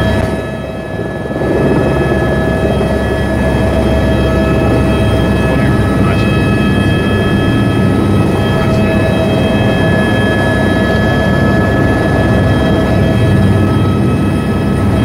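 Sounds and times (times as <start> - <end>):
helicopter turbine whine: 0.0 - 15.0
rotor and engine rumble: 0.0 - 15.0.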